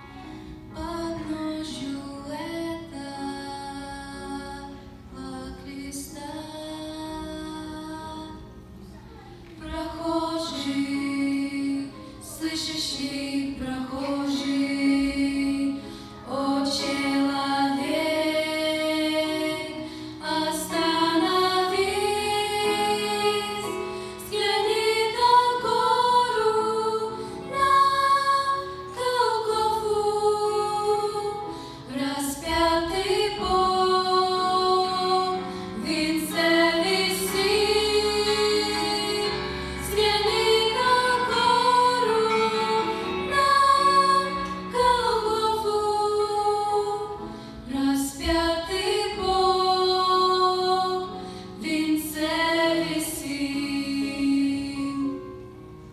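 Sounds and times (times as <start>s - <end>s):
high voices singing: 0.0s - 55.4s
musical accompaniment: 0.0s - 55.9s.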